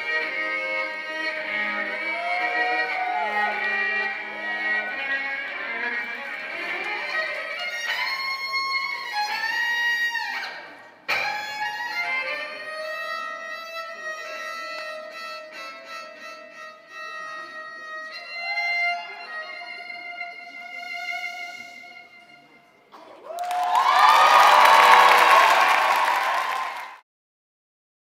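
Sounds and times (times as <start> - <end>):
solo violin playing: 0.0 - 22.8.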